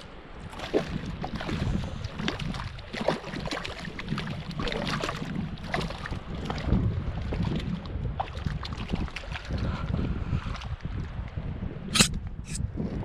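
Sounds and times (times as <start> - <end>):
fish splashing in shallow water: 0.0 - 11.3
wind rumble on microphone: 0.0 - 13.0.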